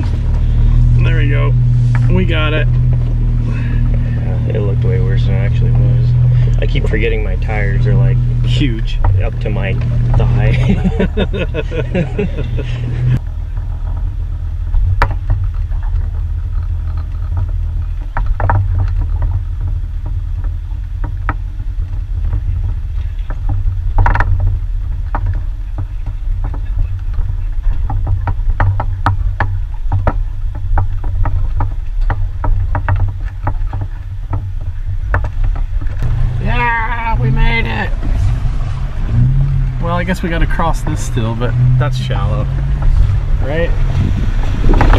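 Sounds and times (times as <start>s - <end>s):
engine rumbling low: 0.0s - 44.9s
rocks and chassis knocking: 0.0s - 44.9s.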